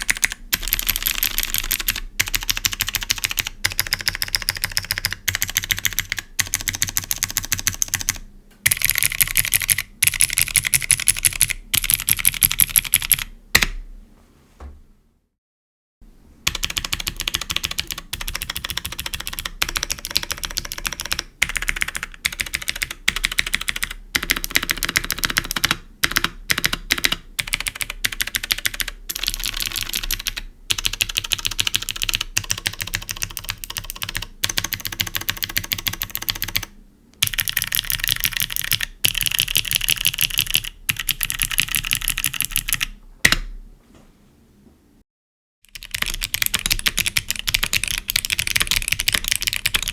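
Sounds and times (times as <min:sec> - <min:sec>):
fast typing on clicky keyboard: 0:00.0 - 0:13.7, 0:16.5 - 0:43.5, 0:45.7 - 0:49.9.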